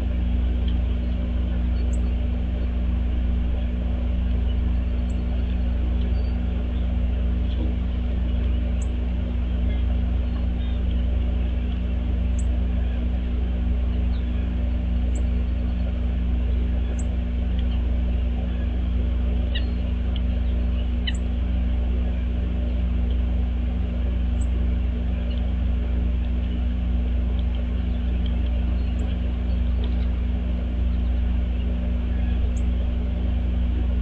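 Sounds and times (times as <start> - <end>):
low hum and rumble: 0.0 - 34.0
small birds chirping: 0.0 - 34.0.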